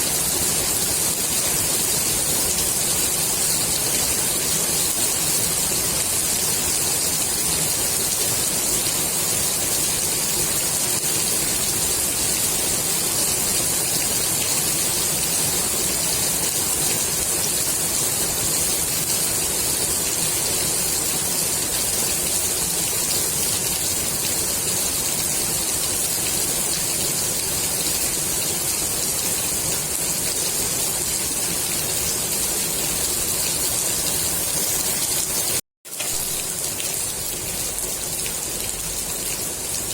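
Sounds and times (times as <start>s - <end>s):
rain falling on pool water: 0.0s - 39.9s.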